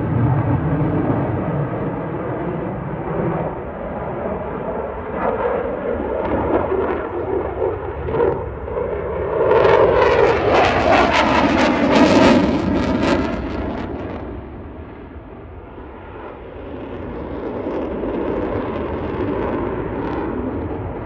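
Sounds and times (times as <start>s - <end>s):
fighter jet engine rumble: 0.0s - 21.0s.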